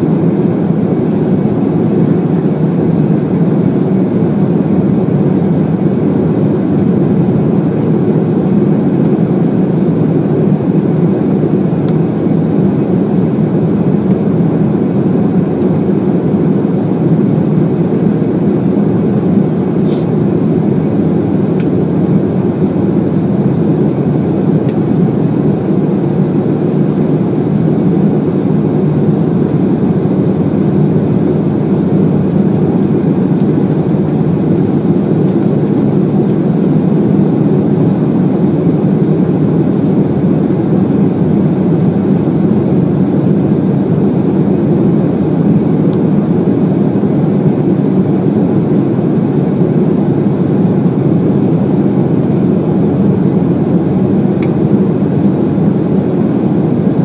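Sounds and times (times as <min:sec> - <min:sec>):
jet engines droning in cabin: 0:00.0 - 0:57.0.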